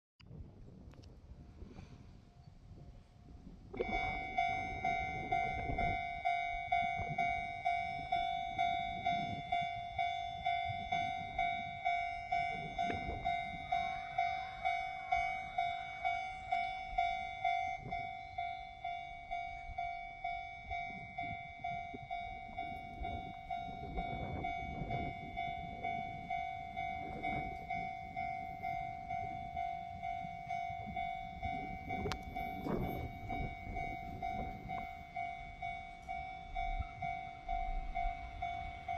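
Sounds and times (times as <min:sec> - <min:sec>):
train passing rumble: 0:00.3 - 0:38.9
level crossing bell ringing: 0:03.8 - 0:38.9.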